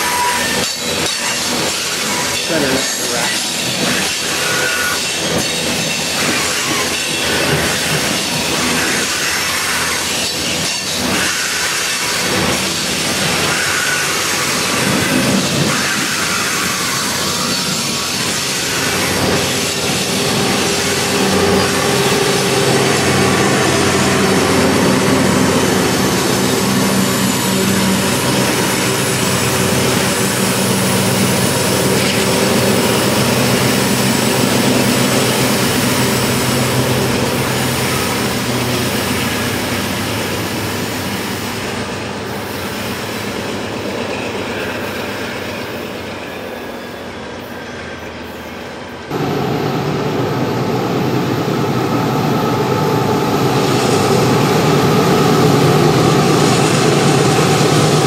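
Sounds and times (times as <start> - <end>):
diesel locomotive engines droning: 0.0 - 58.0
freight cars rumbling on rails: 0.0 - 58.0.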